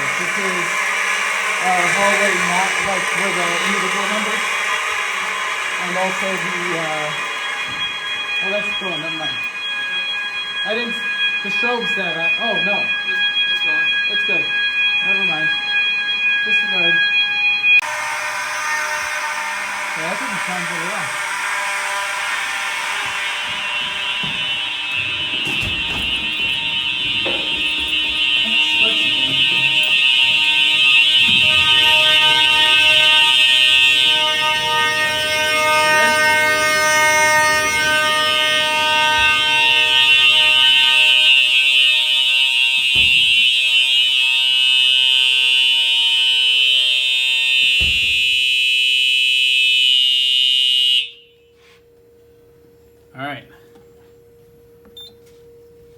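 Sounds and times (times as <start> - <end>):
fire alarm horns blaring: 0.0 - 55.9.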